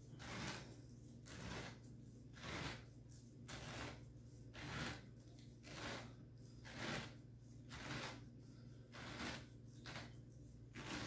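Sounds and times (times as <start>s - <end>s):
pineapple corer rasping scrape: 0.0s - 11.0s.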